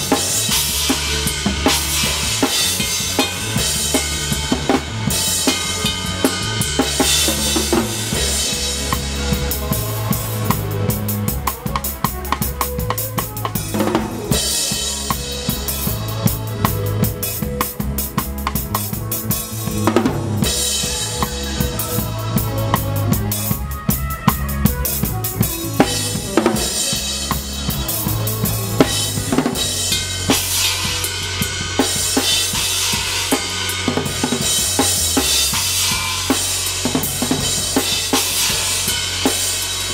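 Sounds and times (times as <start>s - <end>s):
low bass notes: 0.0s - 39.9s.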